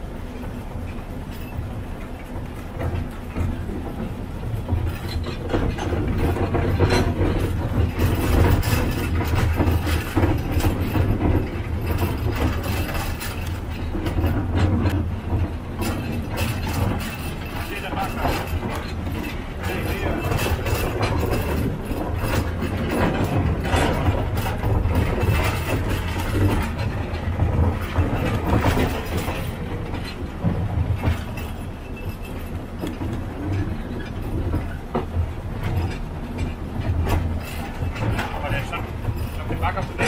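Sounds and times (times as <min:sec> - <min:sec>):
railway cars rattling: 0:00.0 - 0:40.0
train wheels clattering on rails: 0:00.0 - 0:40.0.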